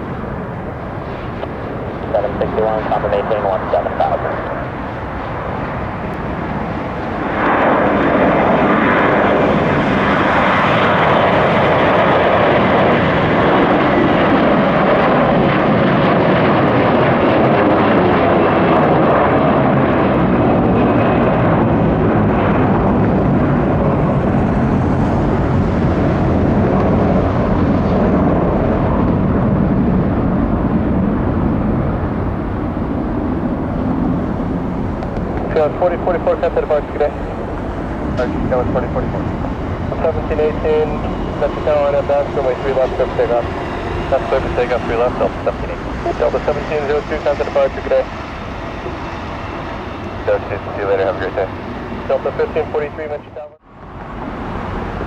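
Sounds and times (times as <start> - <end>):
jet airliner engine roar: 0.0 - 55.0.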